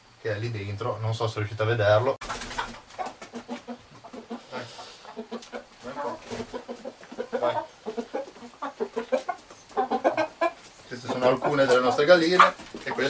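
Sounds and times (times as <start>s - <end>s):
chickens clucking: 0.6s - 13.0s.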